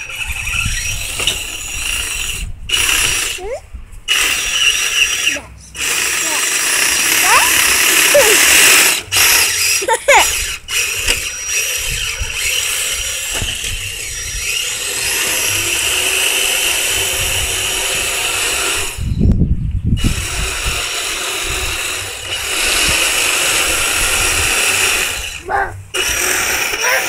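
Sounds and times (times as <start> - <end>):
electric motor whining: 0.0 - 3.5, 4.1 - 27.0.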